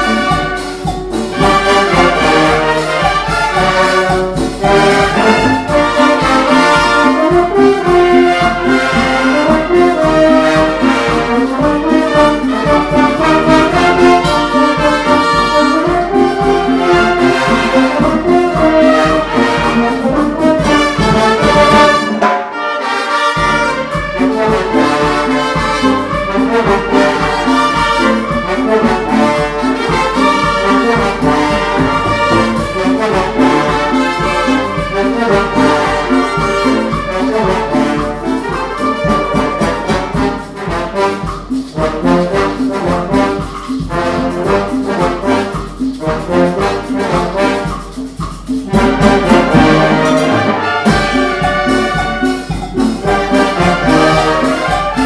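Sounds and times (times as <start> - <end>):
wind band playing lively piece: 0.0 - 55.0.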